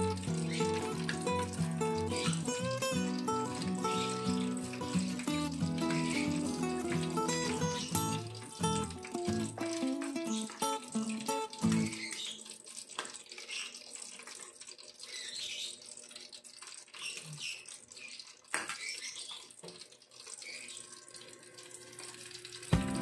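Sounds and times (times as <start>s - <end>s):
fritters sizzling in hot oil: 0.0s - 23.0s.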